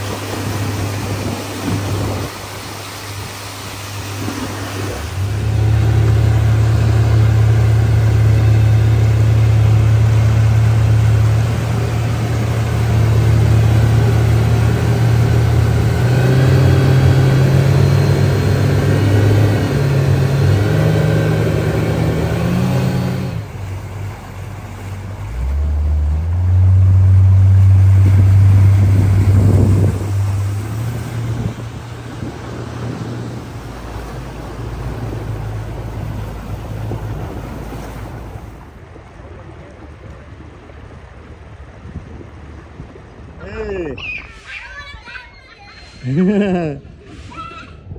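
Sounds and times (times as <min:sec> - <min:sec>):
outboard motor running: 0:00.0 - 0:43.9
water rushing along hull: 0:00.0 - 0:47.9.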